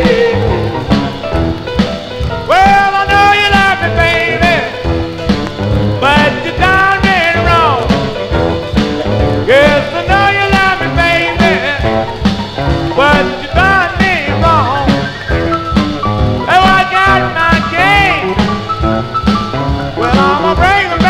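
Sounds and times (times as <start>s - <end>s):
lead playing bending notes: 0.0s - 21.0s
rhythm and blues band playing: 0.0s - 21.0s.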